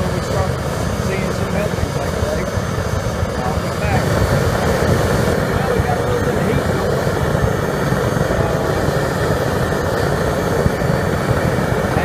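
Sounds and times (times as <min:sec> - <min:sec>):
propane burner roaring: 0:00.0 - 0:12.0.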